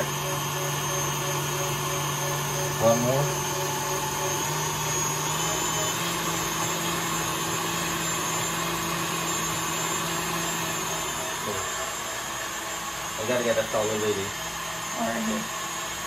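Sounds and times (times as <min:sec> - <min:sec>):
stand mixer motor whine: 0:00.0 - 0:16.0
whisk churning cream: 0:00.0 - 0:16.0.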